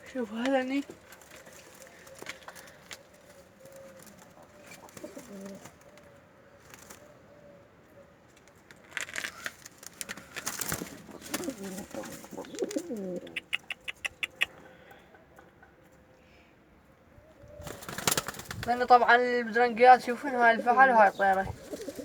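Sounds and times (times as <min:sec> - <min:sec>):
pigeons cooing: 0:00.3 - 0:08.2, 0:10.1 - 0:15.8, 0:17.1 - 0:22.0.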